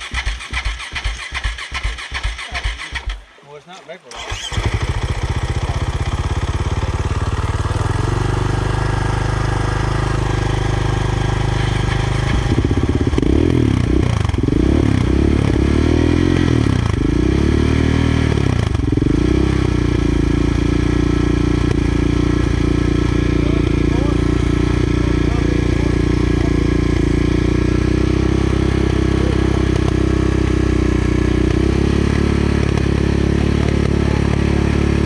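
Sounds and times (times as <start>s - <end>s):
motorcycle engine revving: 0.0s - 3.3s, 4.1s - 35.0s.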